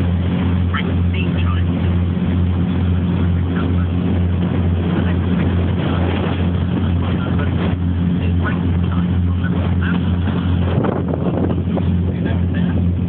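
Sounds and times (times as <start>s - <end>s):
ferry engine droning: 0.0s - 13.0s
rushing water wash: 0.0s - 13.0s.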